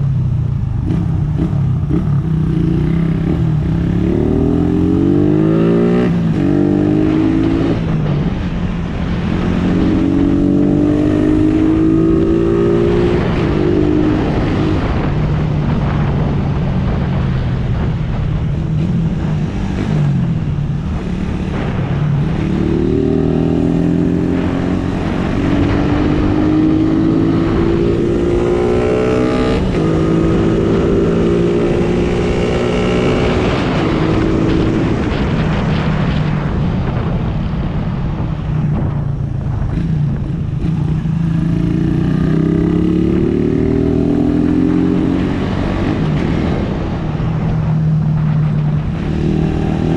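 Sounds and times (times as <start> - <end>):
motorcycle engine accelerating: 0.0 - 49.9
wind and road noise: 0.0 - 49.9.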